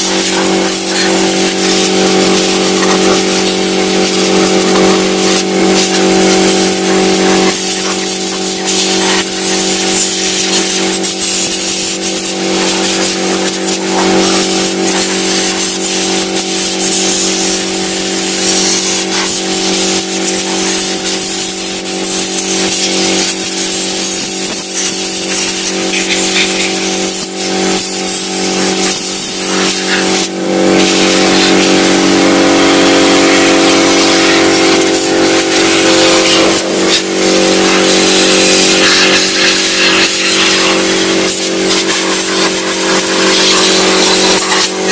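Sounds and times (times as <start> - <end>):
compressed air hissing: 0.0 - 19.4, 20.2 - 44.9
air compressor humming: 0.0 - 44.9.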